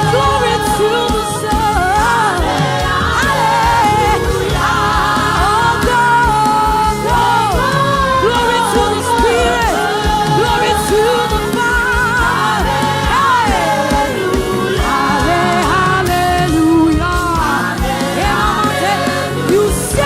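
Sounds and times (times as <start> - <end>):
band with steady beat: 0.0 - 20.0
gospel singing: 0.0 - 20.0.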